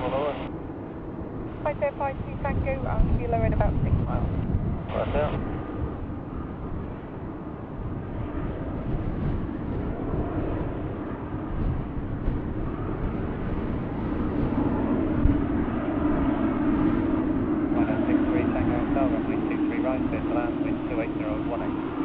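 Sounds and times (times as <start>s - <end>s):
jet engines rumbling: 0.0s - 22.0s
wind buffeting microphone: 0.0s - 22.0s.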